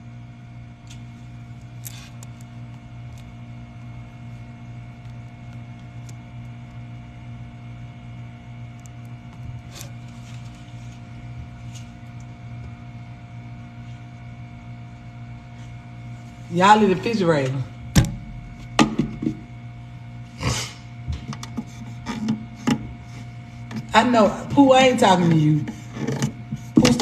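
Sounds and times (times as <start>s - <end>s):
fridge humming: 0.0s - 27.0s.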